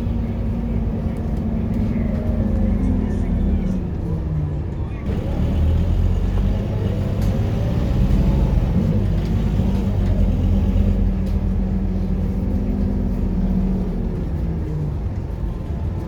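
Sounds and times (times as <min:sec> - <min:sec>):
bus diesel engine droning: 0:00.0 - 0:16.0.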